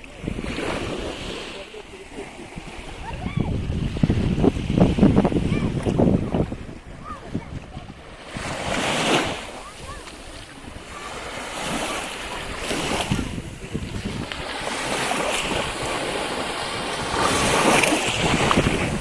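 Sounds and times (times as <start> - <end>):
waves breaking: 0.0 - 19.0
wind buffeting microphone: 2.2 - 19.0.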